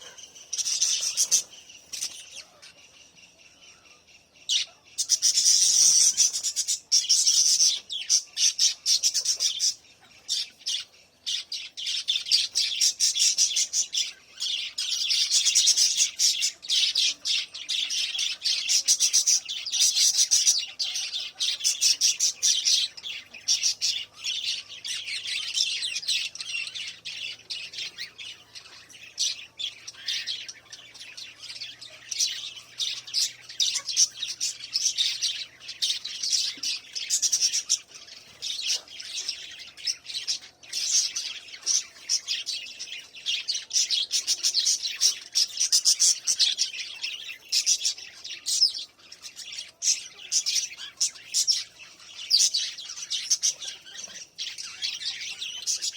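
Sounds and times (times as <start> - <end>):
parrots chattering and squawking: 0.0 - 55.9.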